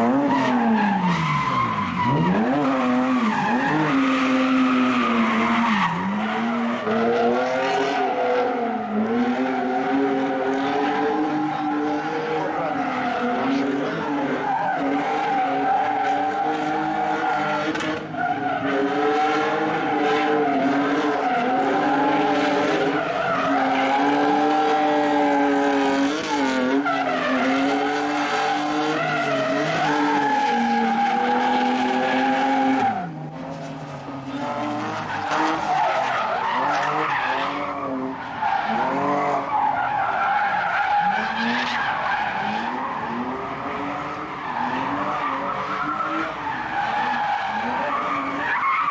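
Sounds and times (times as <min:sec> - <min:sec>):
car engines revving high: 0:00.0 - 0:48.9
tyre squeal and skidding: 0:00.0 - 0:48.9.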